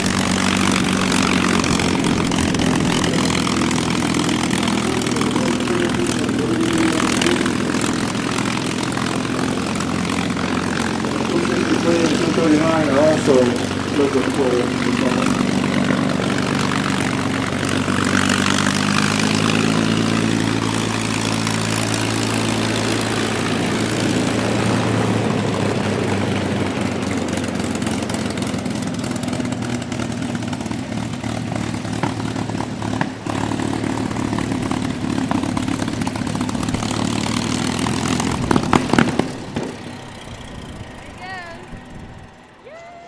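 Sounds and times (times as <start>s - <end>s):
engine popping: 0.0s - 42.6s
propeller aircraft engine running: 0.0s - 42.8s.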